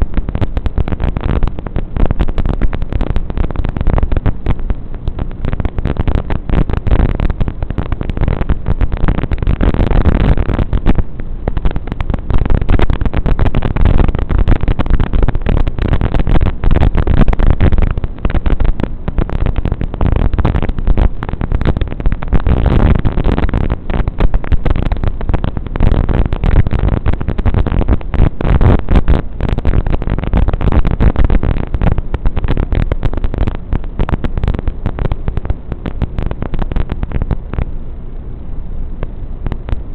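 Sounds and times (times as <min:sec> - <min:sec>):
static hiss with crackling: 0:00.0 - 0:39.9.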